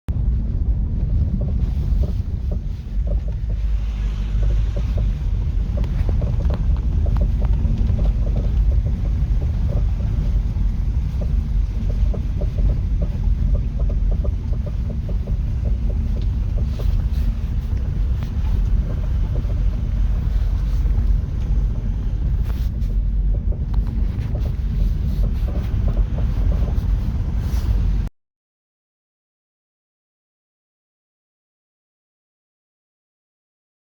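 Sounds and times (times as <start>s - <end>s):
car engine and road rumble: 0.1s - 28.1s.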